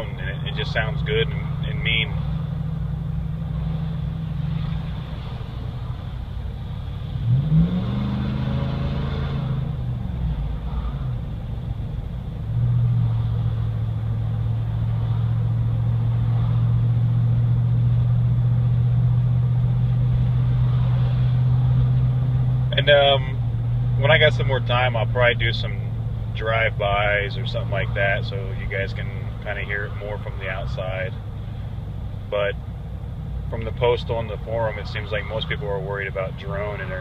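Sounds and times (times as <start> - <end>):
engine revving: 0.0 - 32.7, 33.4 - 37.0
truck engine running inside cab: 0.0 - 37.0.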